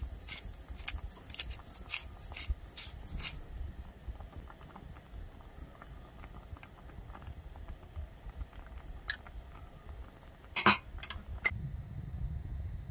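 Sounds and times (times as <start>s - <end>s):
soup bubbling in a pot: 0.0s - 11.9s.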